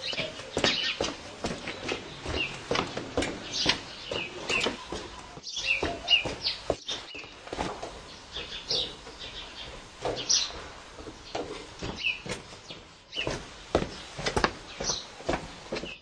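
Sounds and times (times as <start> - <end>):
footsteps on stone paving: 0.0 - 16.0
small birds chirping: 0.0 - 16.0.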